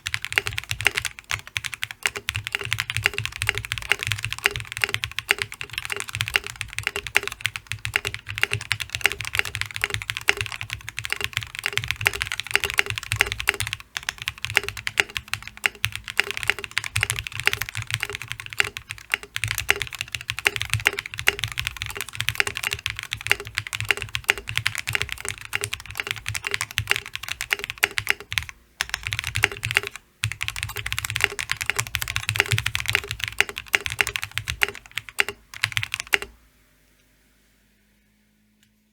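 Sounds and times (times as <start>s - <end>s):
fast mechanical keyboard typing: 0.0s - 36.3s.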